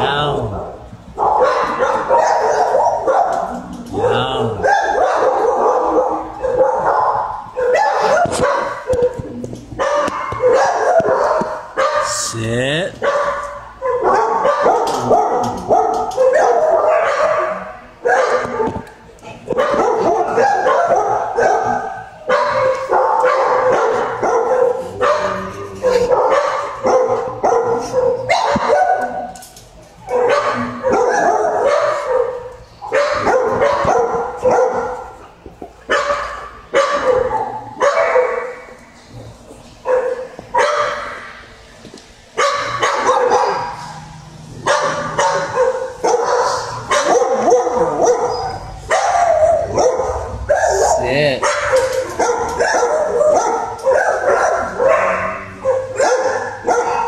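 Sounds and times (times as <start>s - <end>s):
dogs barking: 0.0s - 12.3s, 13.0s - 41.6s, 42.3s - 57.0s.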